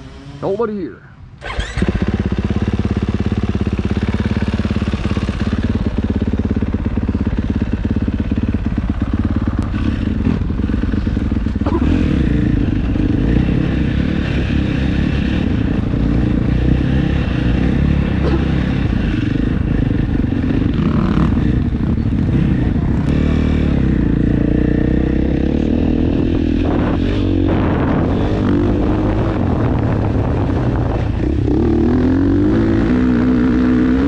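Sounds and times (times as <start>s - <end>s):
dirt bike engine running: 1.4s - 34.0s.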